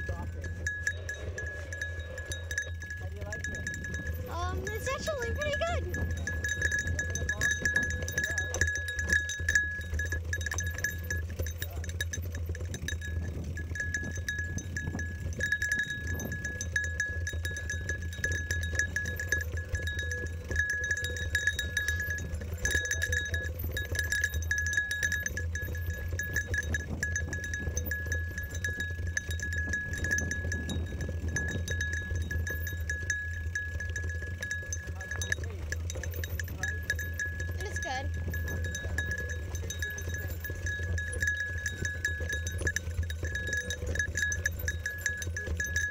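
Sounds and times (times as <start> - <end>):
metal bell jingling: 0.0 - 45.9
tyres rumbling on dirt: 0.0 - 45.9
wind: 0.0 - 45.9.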